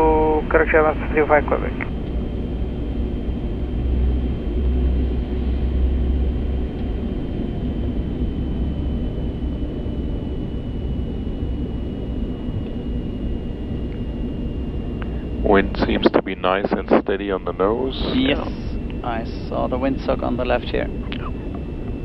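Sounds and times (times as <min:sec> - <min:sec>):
faint high whine: 0:00.0 - 0:22.0
low rumble of engines and airflow: 0:00.0 - 0:22.0.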